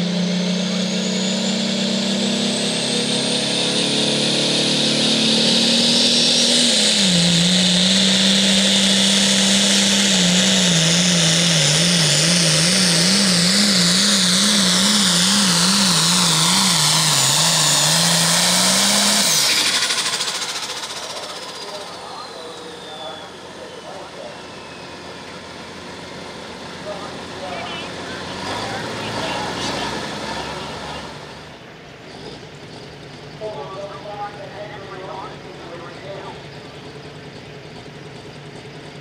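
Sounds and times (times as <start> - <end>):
diesel engine at full power: 0.0 - 39.0
high turbo whine: 0.0 - 39.0.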